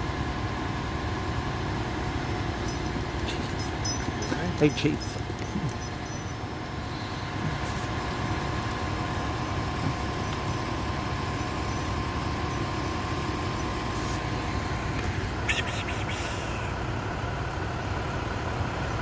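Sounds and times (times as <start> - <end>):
faint steady whine: 0.0 - 18.2
truck engine idling: 0.0 - 19.0.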